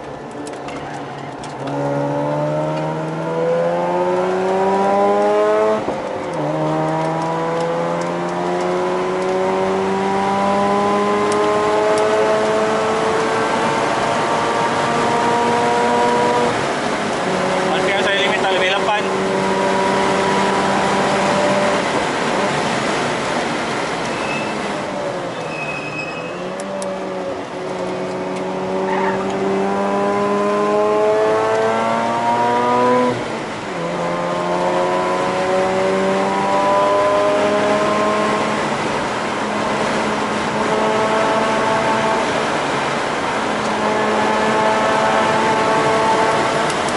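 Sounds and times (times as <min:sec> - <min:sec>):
rotary engine revving: 0:01.4 - 0:22.6, 0:25.8 - 0:46.9.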